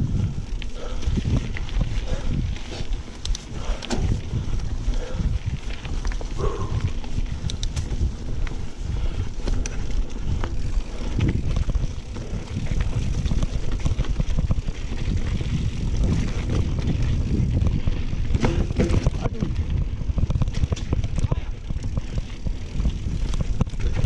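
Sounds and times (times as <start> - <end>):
bike clicks and rattles: 0.0 - 24.0
wind rumbling on microphone: 0.0 - 24.0.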